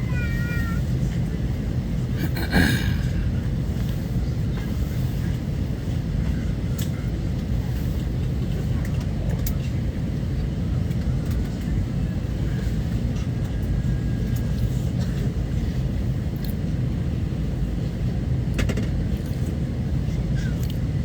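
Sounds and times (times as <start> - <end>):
vehicle cabin rumble: 0.0 - 21.0.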